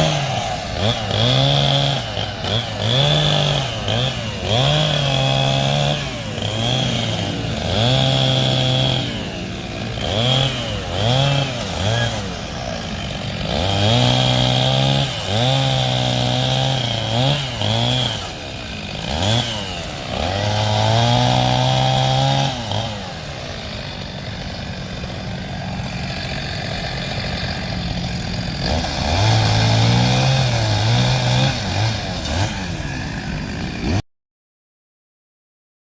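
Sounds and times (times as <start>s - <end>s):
chainsaw revving: 0.0s - 34.0s.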